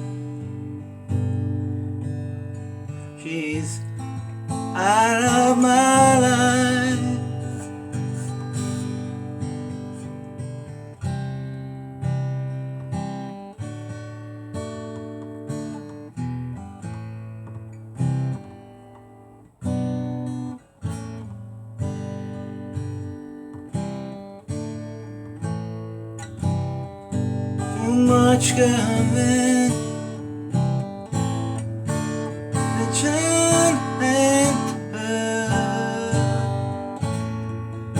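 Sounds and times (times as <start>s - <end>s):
acoustic guitar strummed chords: 0.0s - 37.9s.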